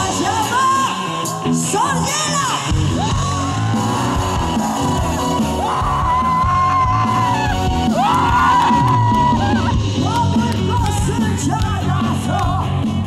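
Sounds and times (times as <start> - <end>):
bass: 0.0 - 13.0
drums: 0.0 - 13.0.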